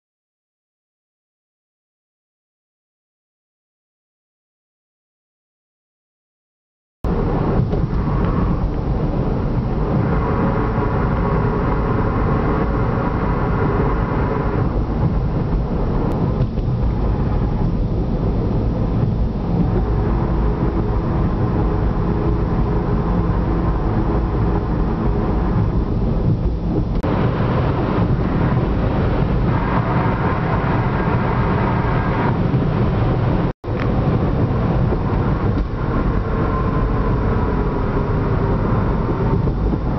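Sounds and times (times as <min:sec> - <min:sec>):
continuous low rumble: 0:07.0 - 0:39.9
hollow humming drone: 0:07.1 - 0:39.9.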